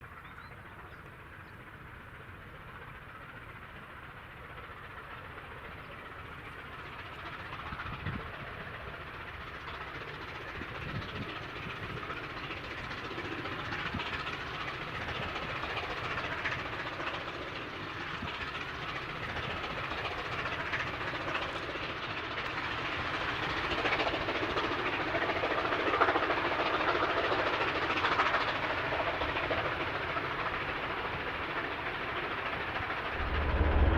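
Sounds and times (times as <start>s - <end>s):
train rail and wheel noise: 0.0s - 33.9s.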